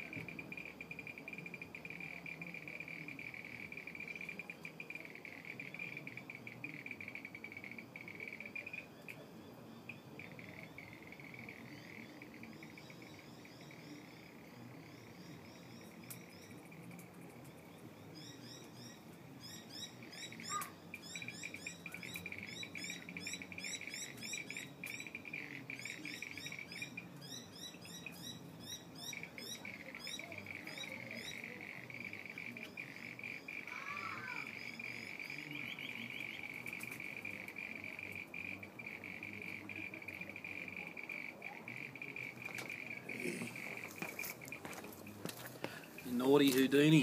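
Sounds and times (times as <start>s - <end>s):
frogs trilling: 0.0s - 17.0s, 17.6s - 47.0s.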